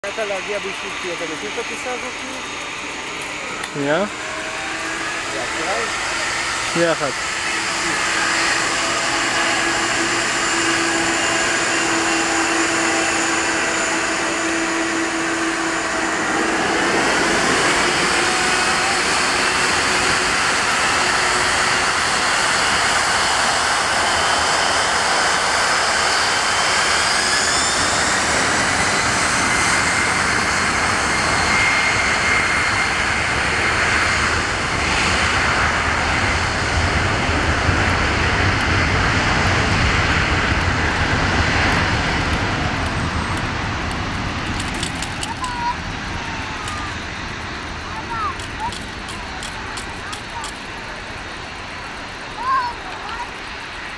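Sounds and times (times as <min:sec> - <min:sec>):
deep rumble: 0:00.0 - 0:52.4
jet engines spooling up: 0:00.0 - 0:53.9.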